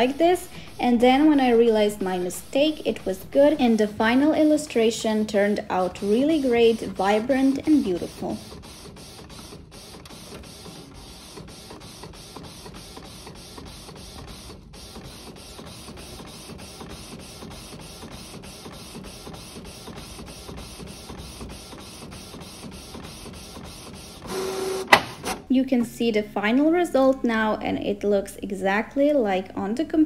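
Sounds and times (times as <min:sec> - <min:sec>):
inkjet printer whirring: 0:00.0 - 0:25.5.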